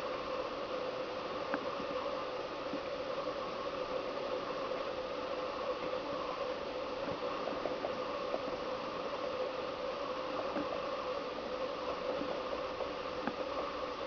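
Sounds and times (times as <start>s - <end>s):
faint hum: 0.0s - 14.0s
steady hiss: 0.0s - 14.0s.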